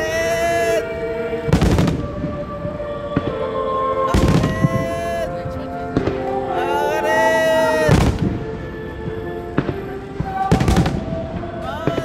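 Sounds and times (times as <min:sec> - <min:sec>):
music with singing: 0:00.0 - 0:12.0.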